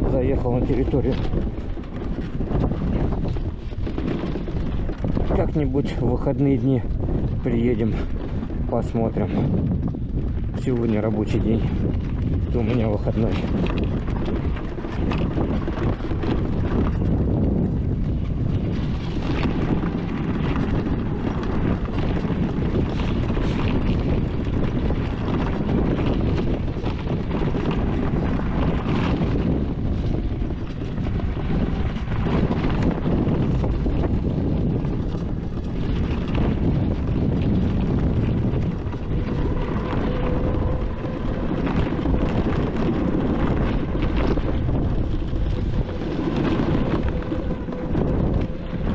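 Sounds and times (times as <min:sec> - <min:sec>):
wind rumbling on microphone: 0:00.0 - 0:48.9.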